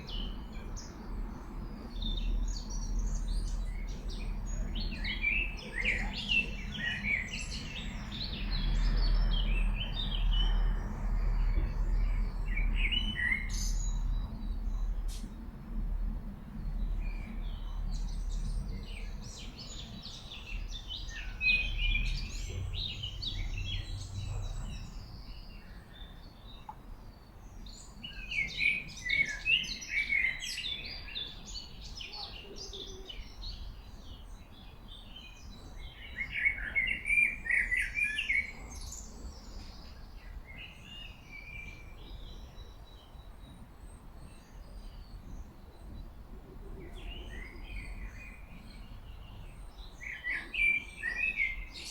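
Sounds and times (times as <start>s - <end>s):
songbirds twittering: 0.0s - 51.9s.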